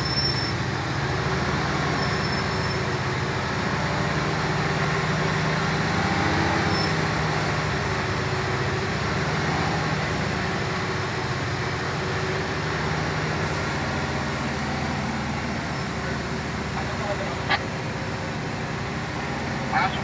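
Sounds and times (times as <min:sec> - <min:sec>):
diesel truck engine humming: 0:00.0 - 0:20.0
road noise: 0:00.0 - 0:20.0.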